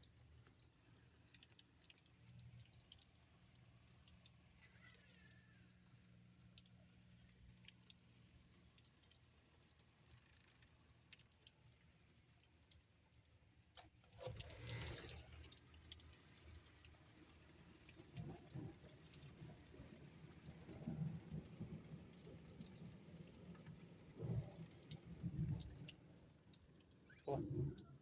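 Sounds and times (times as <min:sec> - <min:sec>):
rain drops pattering: 0:00.0 - 0:28.0.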